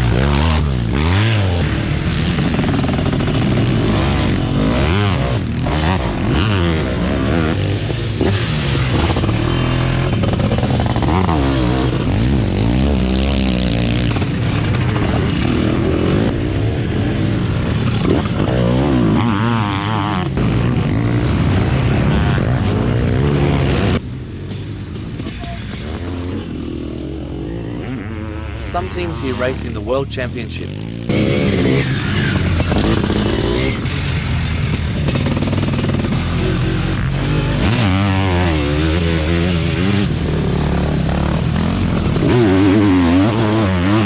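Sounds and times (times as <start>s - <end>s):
two-stroke engines revving: 0.0s - 44.0s.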